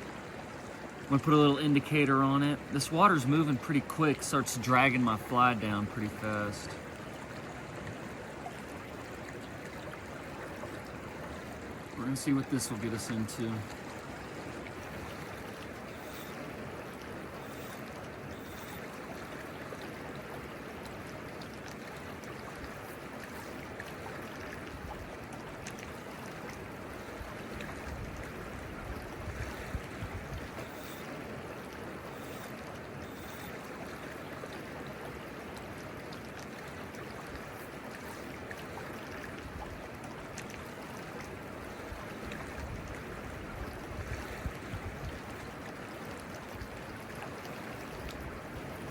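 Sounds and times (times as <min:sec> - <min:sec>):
river water rushing over rocks: 0:00.0 - 0:48.9.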